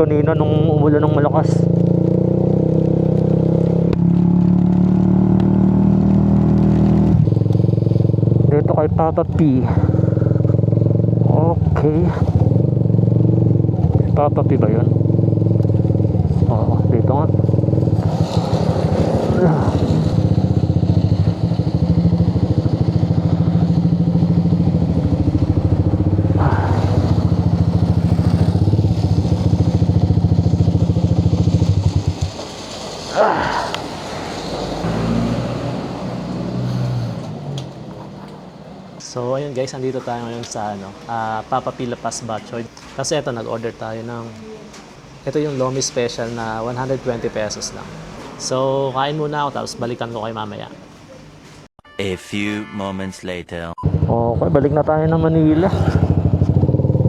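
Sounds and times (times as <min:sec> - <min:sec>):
motorcycle engine running: 0:00.0 - 0:34.0, 0:34.8 - 0:51.4, 0:53.8 - 0:57.0.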